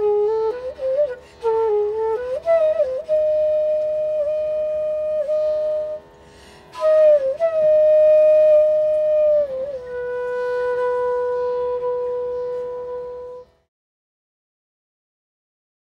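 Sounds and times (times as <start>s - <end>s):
solo flute long notes: 0.0s - 13.7s.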